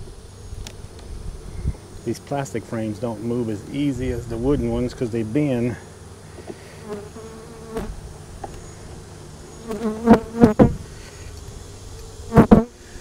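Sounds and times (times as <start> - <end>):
bees buzzing past: 0.0 - 13.0
bees humming: 0.0 - 13.0.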